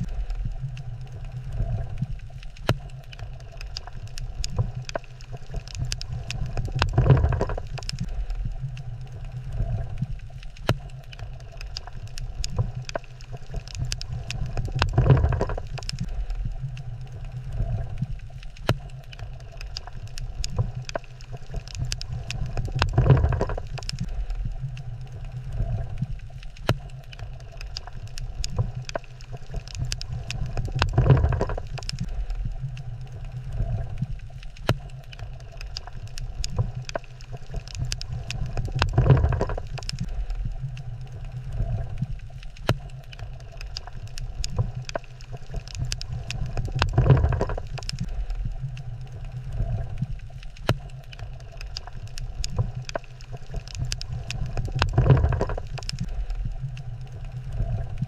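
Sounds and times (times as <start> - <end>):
crackle of small sharp clicks: 0.0 - 58.0
low underwater rumble: 0.0 - 58.0.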